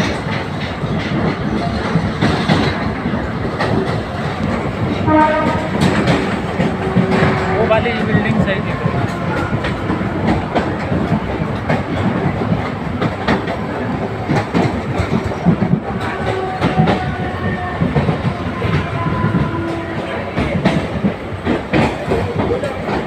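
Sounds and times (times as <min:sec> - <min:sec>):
train rumble: 0:00.0 - 0:23.0
train wheels clattering: 0:00.0 - 0:23.0.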